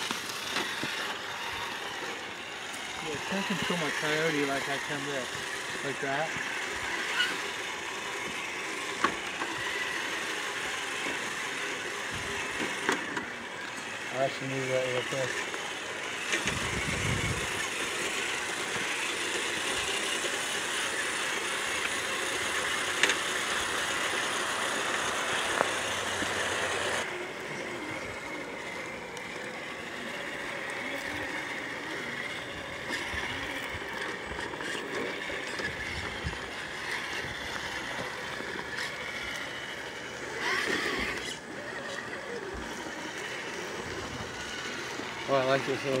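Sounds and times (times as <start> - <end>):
small electric motors whirring: 0.0 - 46.0.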